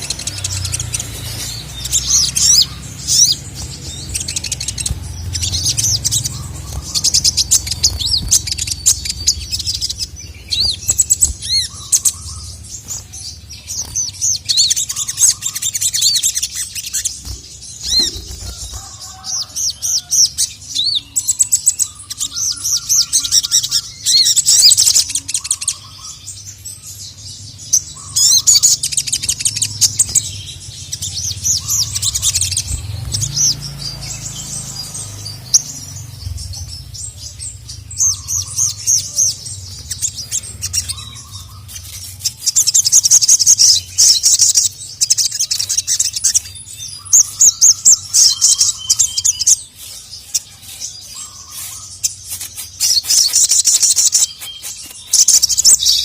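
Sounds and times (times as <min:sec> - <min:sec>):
spiderhunter bird chirping: 0:00.0 - 0:56.0.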